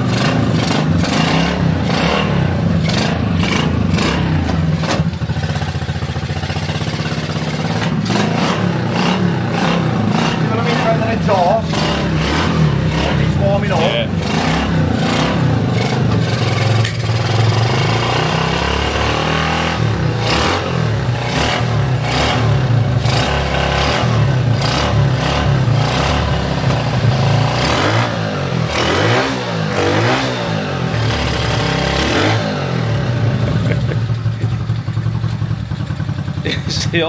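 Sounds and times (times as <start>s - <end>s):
small motorcycle engine revving: 0.0s - 37.0s.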